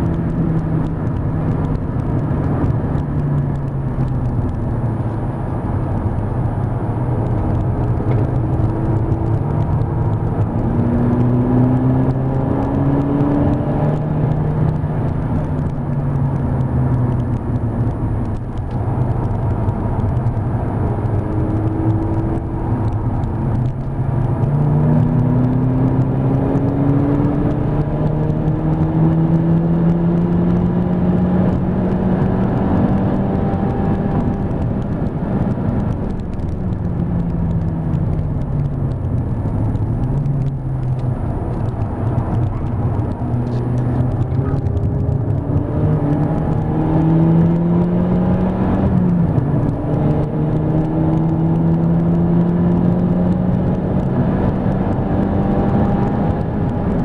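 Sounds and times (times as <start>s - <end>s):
car engine accelerating: 0.0s - 57.0s
tyre and road noise: 0.0s - 57.0s.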